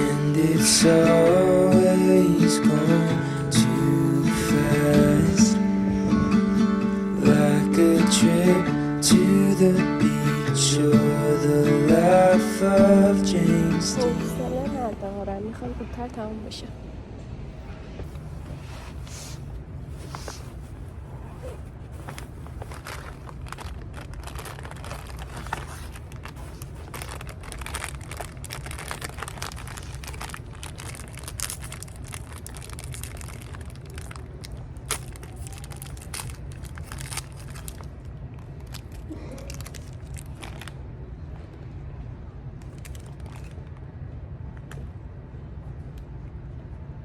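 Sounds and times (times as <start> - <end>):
crinkling and crackling handling: 0.0 - 16.2, 17.6 - 40.9, 42.6 - 44.0
steady low hum: 0.0 - 47.0.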